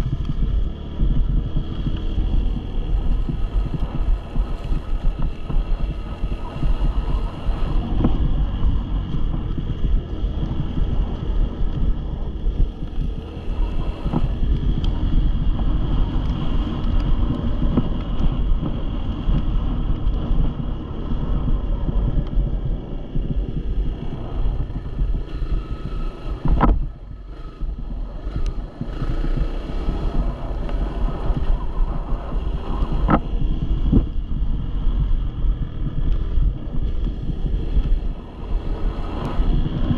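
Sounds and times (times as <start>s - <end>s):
dirt bike engine running: 0.0s - 39.9s
wind buffeting microphone: 0.0s - 39.9s.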